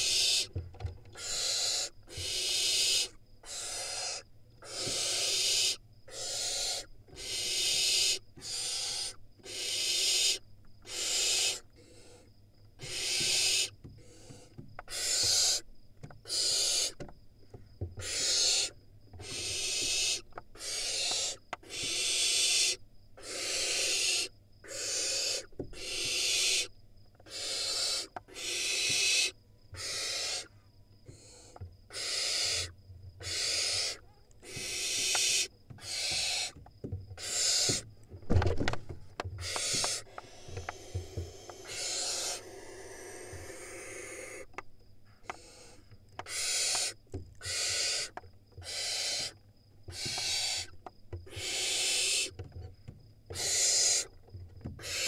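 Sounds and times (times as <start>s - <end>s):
owl nestlings screeching: 0.0s - 0.5s, 1.2s - 12.2s, 12.8s - 15.6s, 16.2s - 17.0s, 18.0s - 30.5s, 31.1s - 36.6s, 37.2s - 37.8s, 39.4s - 44.5s, 45.2s - 50.7s, 51.3s - 52.4s, 53.3s - 54.1s, 54.8s - 55.0s.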